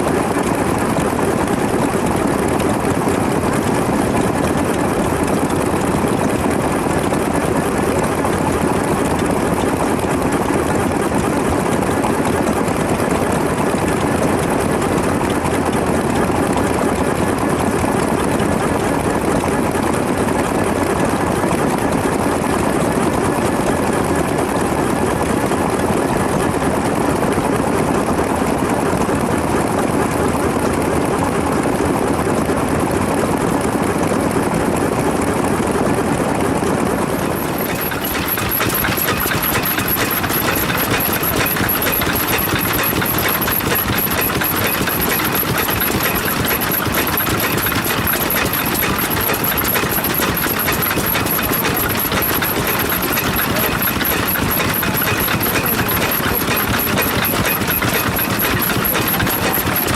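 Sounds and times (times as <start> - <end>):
stationary engines running: 0.0 - 59.9.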